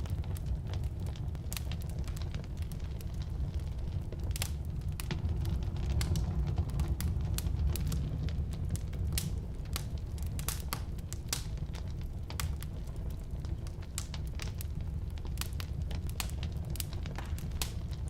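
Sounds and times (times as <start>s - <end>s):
firewood crackling and popping: 0.0s - 18.0s
low rumble of flames: 0.0s - 18.0s.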